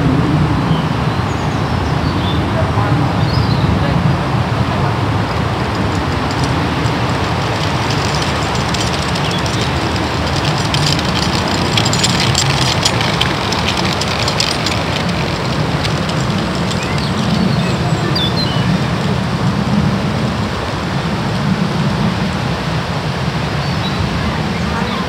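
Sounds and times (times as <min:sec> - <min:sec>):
wind buffeting microphone: 0:02.5 - 0:22.9.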